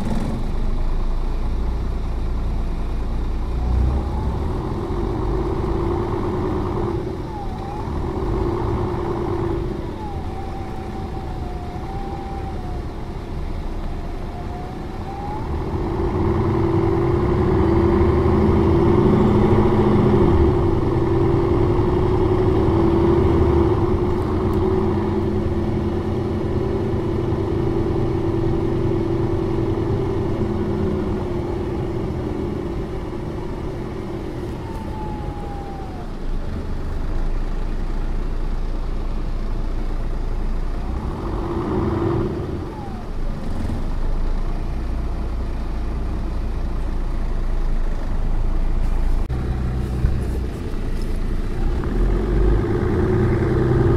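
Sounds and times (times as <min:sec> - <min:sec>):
bus diesel engine running: 0:00.0 - 0:53.9
drivetrain whine: 0:00.0 - 0:53.9.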